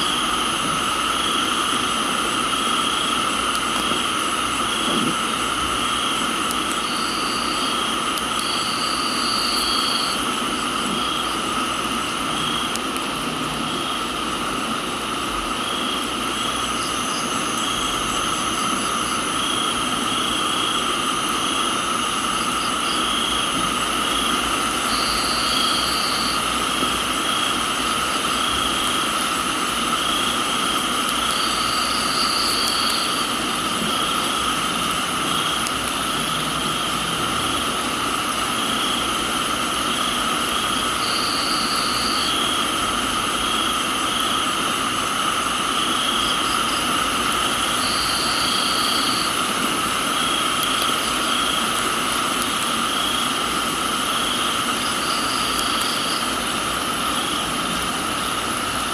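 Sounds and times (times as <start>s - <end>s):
high-pitched insect trilling: 0.0s - 14.2s, 15.2s - 58.4s
crickets chirping: 0.0s - 58.9s
higher insect trill: 0.0s - 58.9s
pulsing insect chirp: 0.0s - 58.9s
steady rain hiss: 0.0s - 58.9s.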